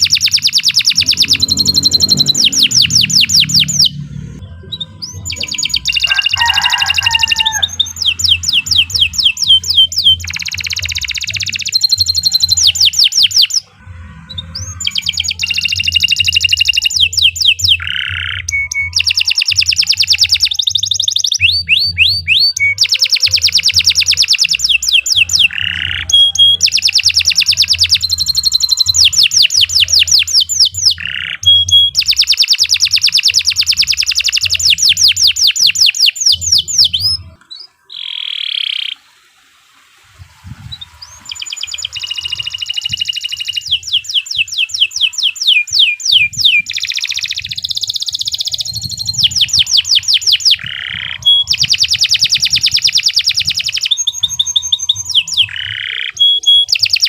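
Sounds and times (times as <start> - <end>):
canary singing trills: 0.0 - 39.1, 40.4 - 57.0.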